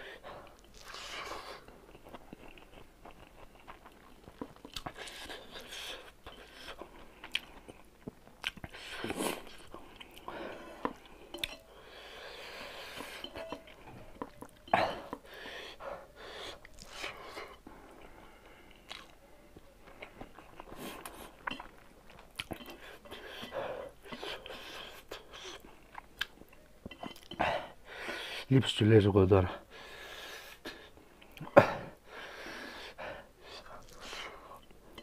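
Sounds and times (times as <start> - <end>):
person chewing food: 0.2 - 28.4, 29.9 - 35.0.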